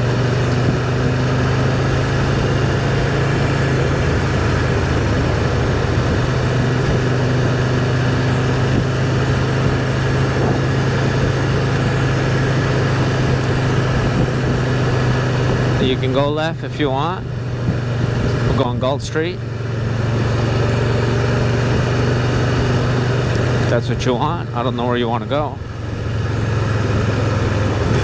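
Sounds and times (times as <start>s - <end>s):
engine droning: 0.0s - 28.0s
road noise: 0.0s - 28.0s.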